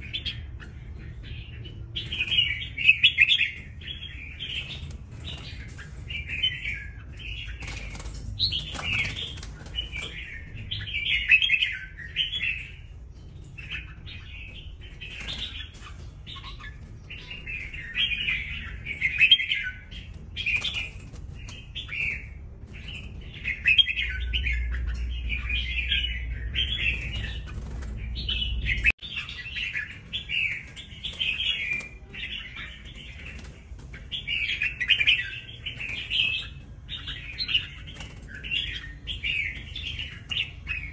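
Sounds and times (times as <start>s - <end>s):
bulbuls singing: 0.0s - 40.9s
wings fluttering: 2.0s - 10.9s, 11.7s - 24.1s, 26.7s - 29.0s, 29.7s - 40.7s.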